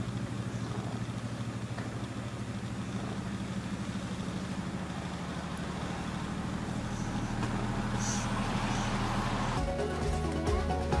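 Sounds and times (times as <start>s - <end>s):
cat purring: 0.0s - 9.7s.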